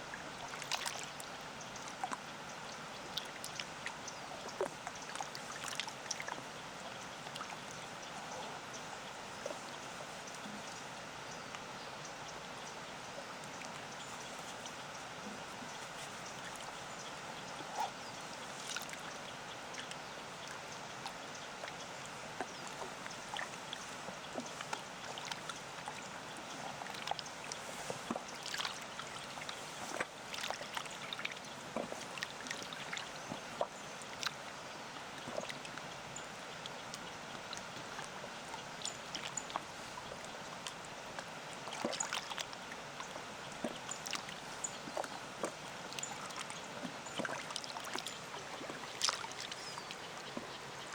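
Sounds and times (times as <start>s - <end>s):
small water splashes: 0.0s - 11.7s, 13.2s - 50.9s
small waves lapping at shore: 0.0s - 50.9s.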